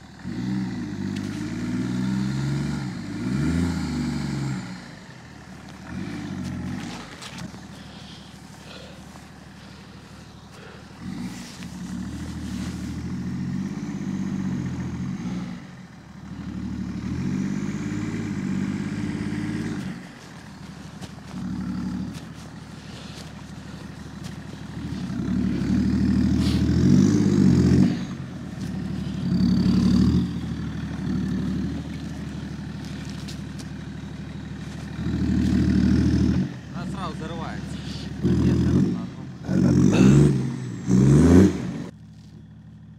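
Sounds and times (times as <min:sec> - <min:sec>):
diesel car engine revving: 0:00.0 - 0:42.9.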